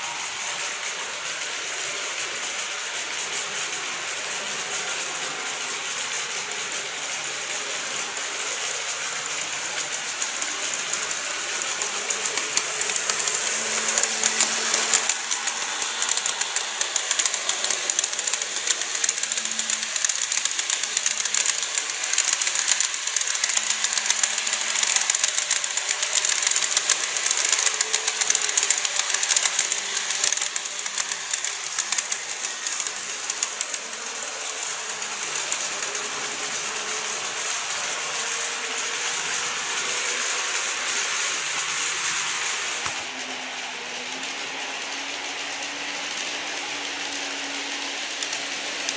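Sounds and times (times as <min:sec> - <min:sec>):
model train wheels clattering: 0:00.0 - 0:48.9.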